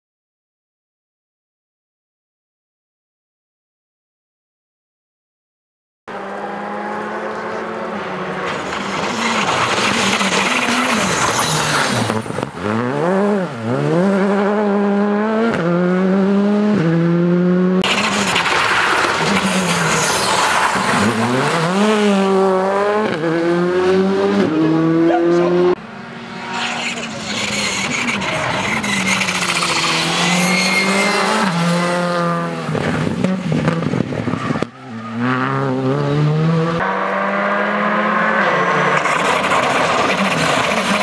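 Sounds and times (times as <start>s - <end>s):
rally car engine at full throttle: 6.1s - 41.0s.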